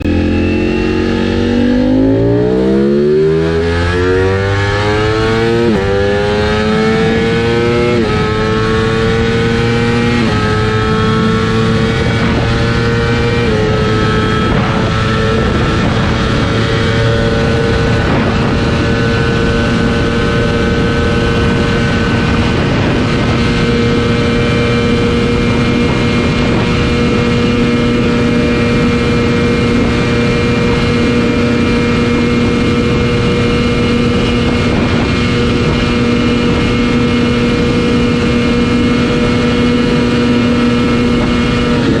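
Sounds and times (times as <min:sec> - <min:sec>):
motorcycle engine at full throttle: 0:00.0 - 0:42.0
wind noise: 0:00.0 - 0:42.0.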